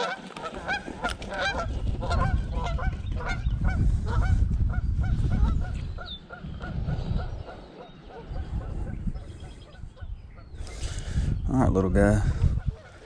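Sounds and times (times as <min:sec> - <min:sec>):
birds calling: 0:00.0 - 0:13.0
low microphone rumble: 0:00.8 - 0:12.9.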